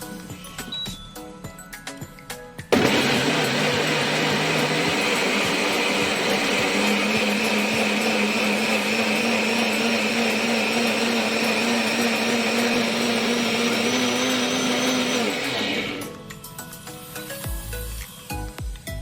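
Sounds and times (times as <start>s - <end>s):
electric blender running: 2.7s - 18.6s.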